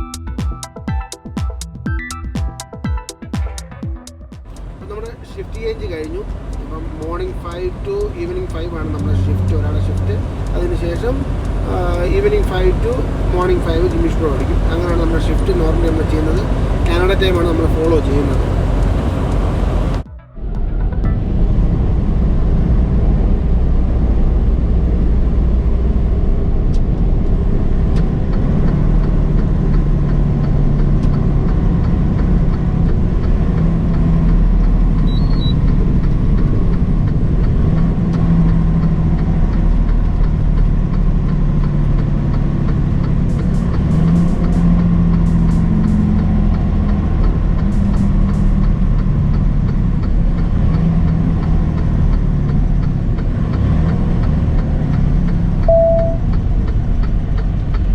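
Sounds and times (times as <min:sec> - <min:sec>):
road rumble: 0:04.4 - 0:57.9
truck engine drone: 0:04.5 - 0:57.9.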